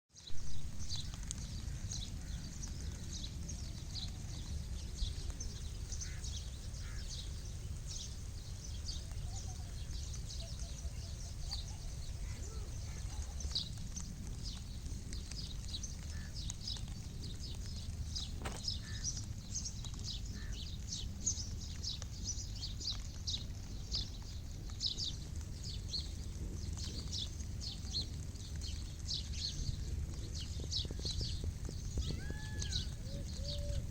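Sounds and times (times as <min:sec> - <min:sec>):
low steady rumble: 0:00.2 - 0:33.9.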